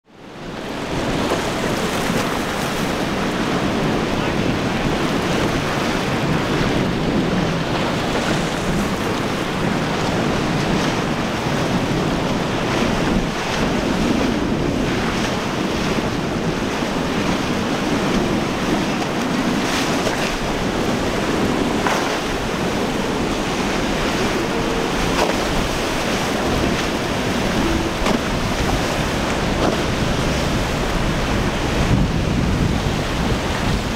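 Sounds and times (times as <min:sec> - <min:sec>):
rough surf and waves: 0:00.0 - 0:33.9
wind buffeting microphone: 0:00.2 - 0:33.9.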